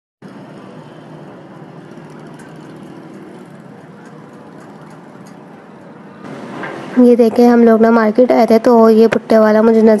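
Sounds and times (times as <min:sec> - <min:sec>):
road traffic: 0:00.2 - 0:10.0.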